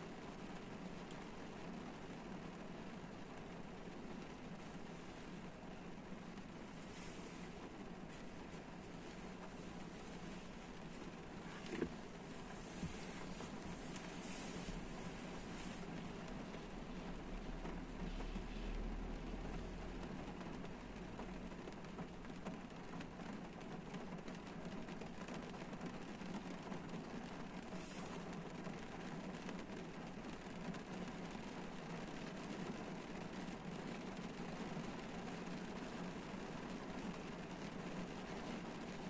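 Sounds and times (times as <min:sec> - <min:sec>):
rain on car roof: 0:00.0 - 0:39.0.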